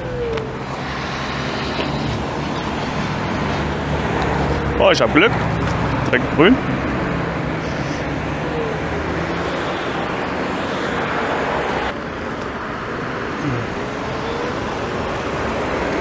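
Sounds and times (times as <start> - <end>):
car traffic: 0.0 - 16.0
wind and road noise: 0.0 - 16.0.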